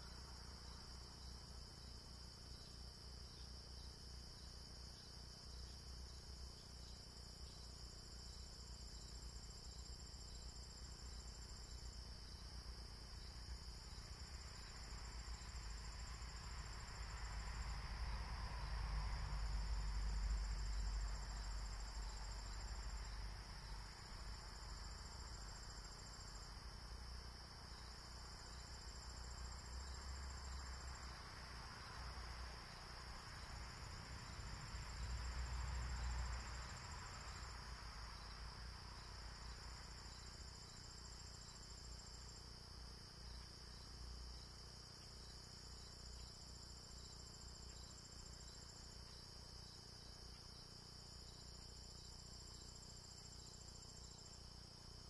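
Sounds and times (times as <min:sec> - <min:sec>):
crickets buzzing: 0:00.0 - 0:55.0
higher insect trill: 0:00.0 - 0:55.0.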